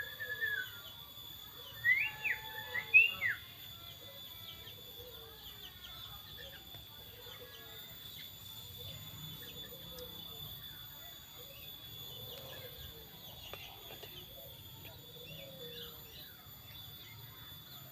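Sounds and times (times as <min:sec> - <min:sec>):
birds chirping and calling: 0:00.0 - 0:17.9.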